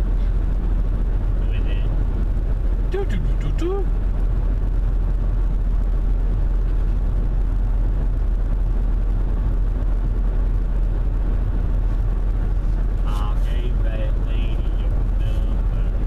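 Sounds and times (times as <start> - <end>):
car cabin road and engine drone: 0.0 - 16.0.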